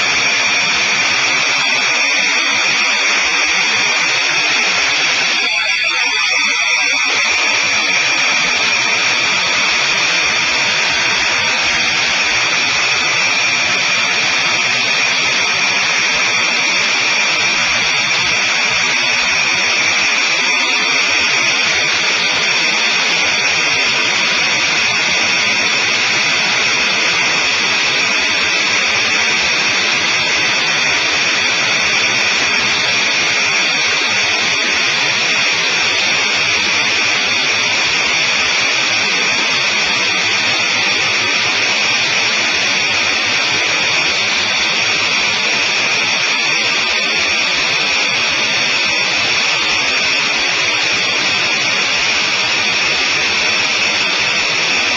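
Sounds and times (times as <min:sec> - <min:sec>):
aircraft engine and propeller drone: 0:01.4 - 0:53.2.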